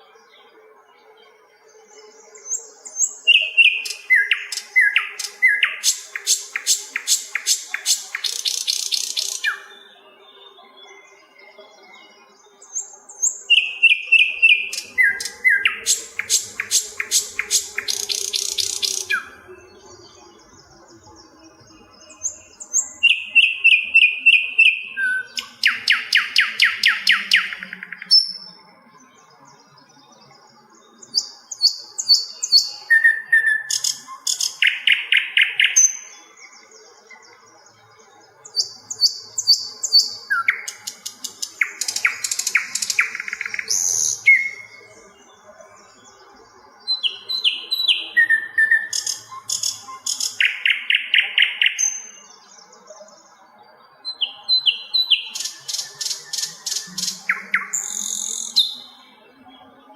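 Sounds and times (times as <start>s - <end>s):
flycatcher whistling and trilling: 1.7s - 37.4s, 38.4s - 53.3s, 54.0s - 59.9s.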